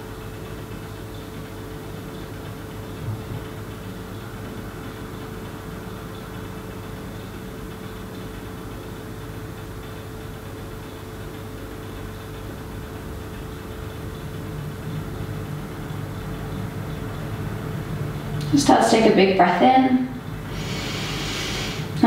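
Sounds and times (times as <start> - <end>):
constant hum: 0.0 - 22.0.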